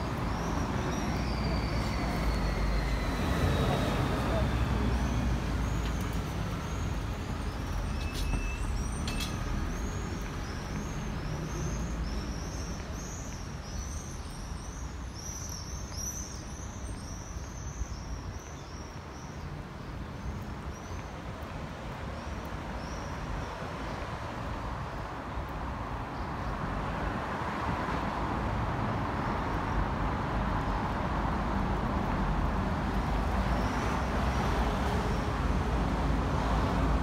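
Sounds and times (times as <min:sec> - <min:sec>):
low traffic rumble: 0:00.0 - 0:37.0.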